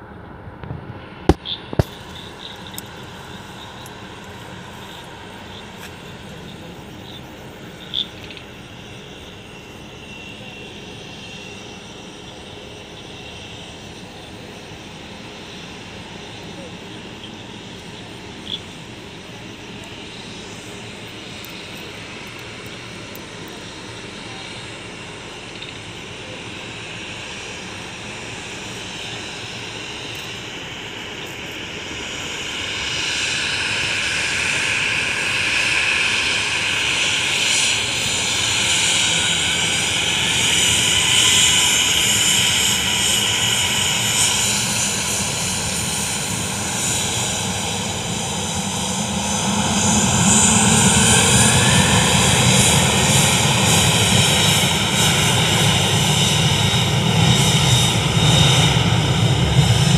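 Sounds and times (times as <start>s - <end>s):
high jet whine: 0.0s - 59.9s
jet engines spooling up: 0.0s - 59.9s.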